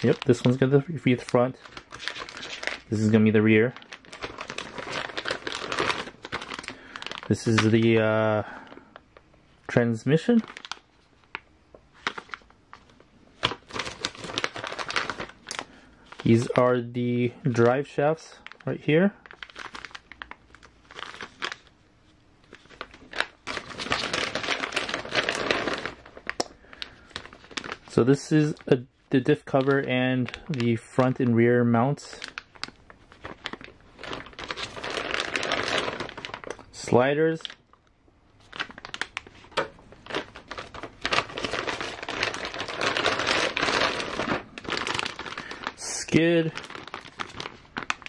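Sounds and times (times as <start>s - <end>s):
plastic bags crinkling: 0.0s - 9.2s, 10.1s - 16.7s, 17.4s - 21.8s, 22.4s - 31.4s, 32.0s - 37.8s, 38.4s - 48.0s.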